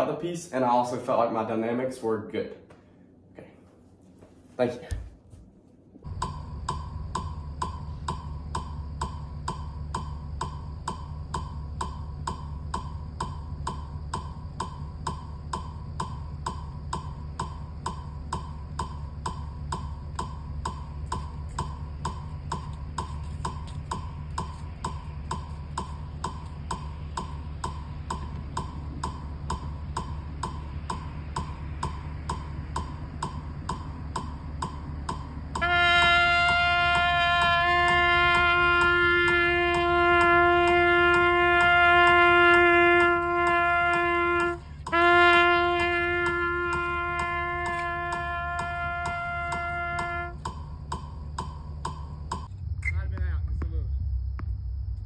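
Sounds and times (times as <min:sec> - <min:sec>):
low rumble: 0:05.1 - 0:55.0
metronome ticking: 0:06.1 - 0:52.5.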